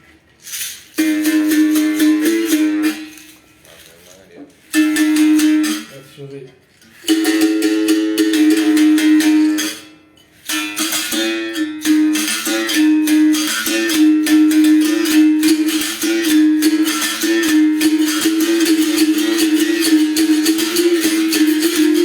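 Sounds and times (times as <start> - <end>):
berimbau playing: 0.6 - 22.0.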